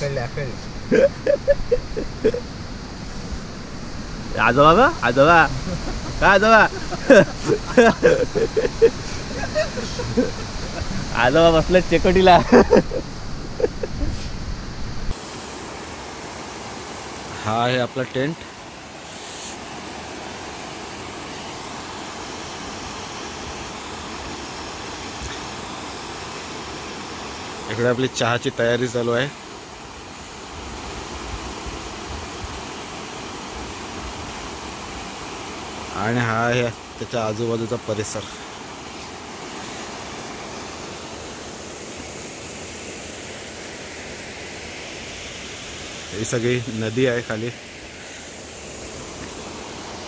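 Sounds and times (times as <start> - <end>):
waterfall rushing over rock: 0.0 - 50.0.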